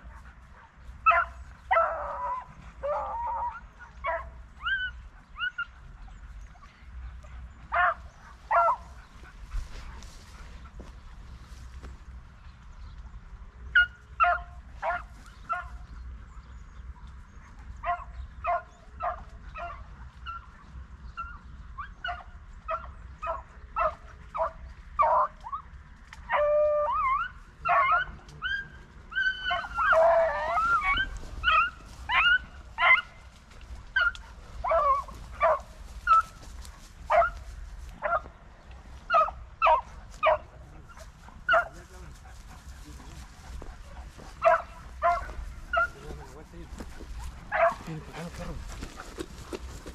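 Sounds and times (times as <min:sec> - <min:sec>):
hounds baying and yelping: 0:00.0 - 0:12.2, 0:13.6 - 0:49.9.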